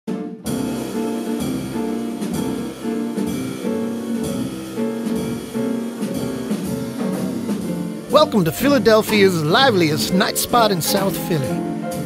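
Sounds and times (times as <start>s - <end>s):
instrumental jazz band music: 0.4s - 12.0s.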